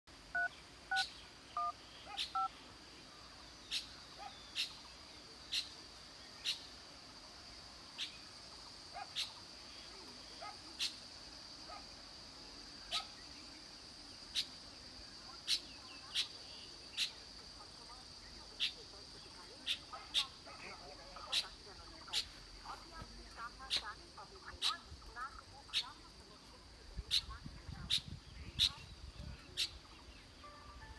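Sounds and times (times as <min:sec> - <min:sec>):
high insect drone: 0:00.5 - 0:30.9.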